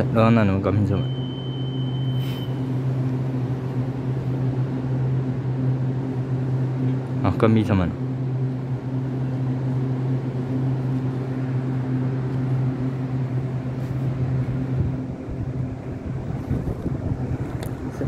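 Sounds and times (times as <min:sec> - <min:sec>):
electric train humming: 0:00.0 - 0:18.0
higher electrical tone: 0:00.0 - 0:18.0.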